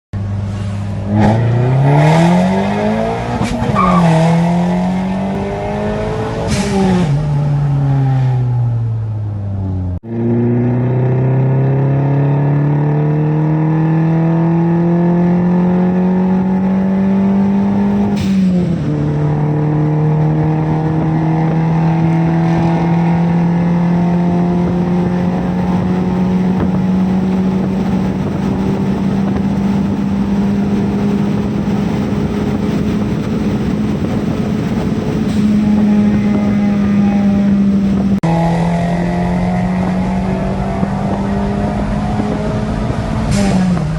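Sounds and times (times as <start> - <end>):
car engine accelerating hard: 0.2 - 43.9.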